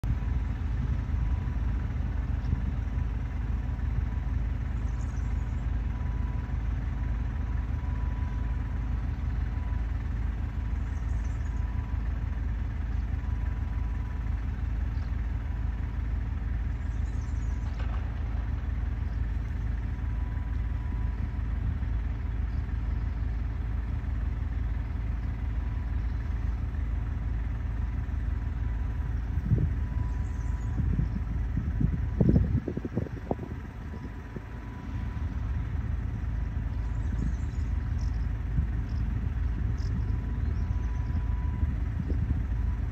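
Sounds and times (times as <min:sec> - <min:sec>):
low engine rumble: 0:00.0 - 0:42.9.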